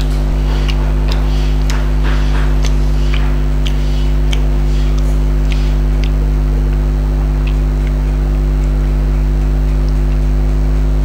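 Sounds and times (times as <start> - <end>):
chewing and eating sounds: 0.0 - 11.0
steady low hum: 0.0 - 11.0.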